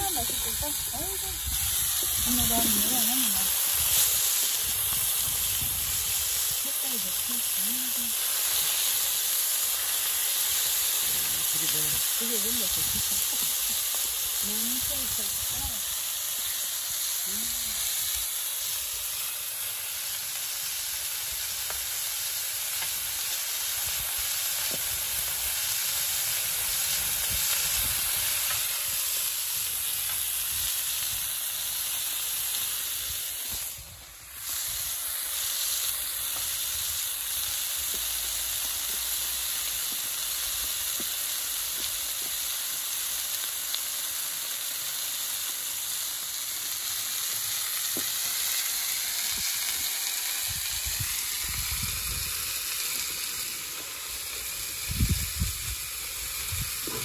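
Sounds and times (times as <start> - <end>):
meat sizzling on a griddle: 0.0 - 57.0.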